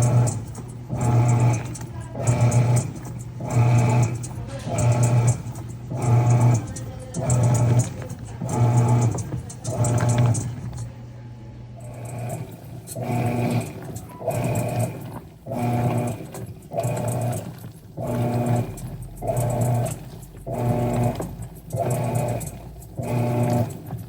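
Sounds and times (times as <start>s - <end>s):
washing machine agitating: 0.0s - 11.0s, 11.8s - 24.0s.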